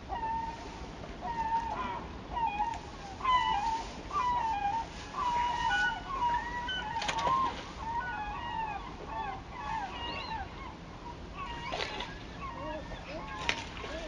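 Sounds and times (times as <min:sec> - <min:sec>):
gulls calling: 0:00.0 - 0:14.0.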